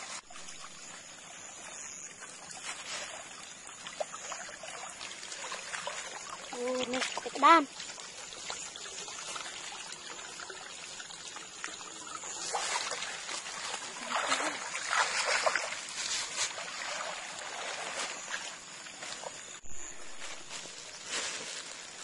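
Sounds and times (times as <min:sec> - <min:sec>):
shallow water trickling: 0:00.0 - 0:22.0.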